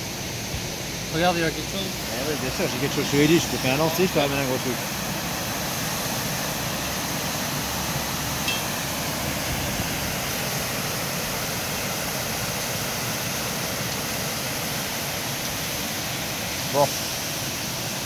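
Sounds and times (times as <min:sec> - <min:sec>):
water rushing over weir: 0:00.0 - 0:18.0.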